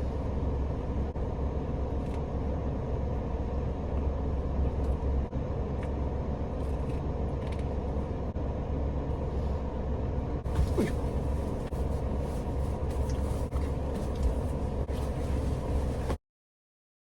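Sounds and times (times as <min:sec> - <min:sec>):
engine idling rumble: 0:00.0 - 0:16.2.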